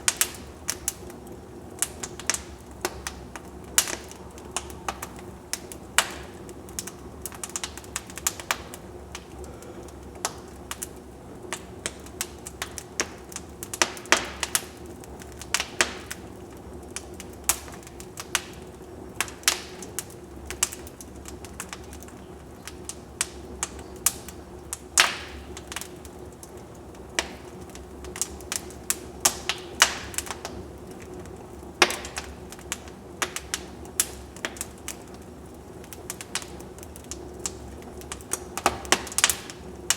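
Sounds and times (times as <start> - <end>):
fire burning: 0.0 - 39.9
wood fire snaps and pops: 0.0 - 39.9.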